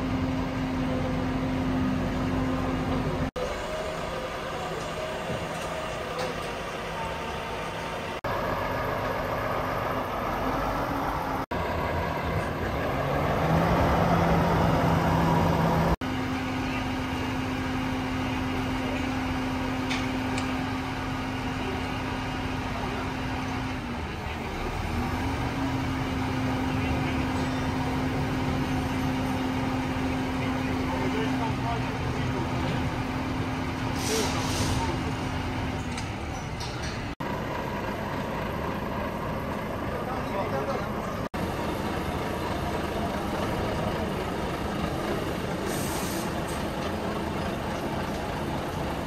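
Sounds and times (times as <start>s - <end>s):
truck engine running: 0.0s - 49.0s.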